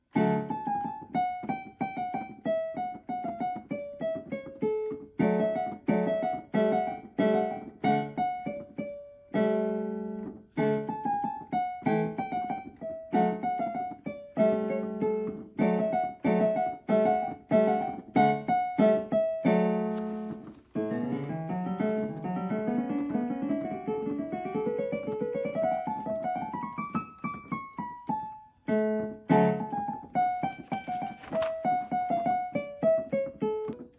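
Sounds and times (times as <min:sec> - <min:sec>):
piano melody: 0:00.0 - 0:33.9.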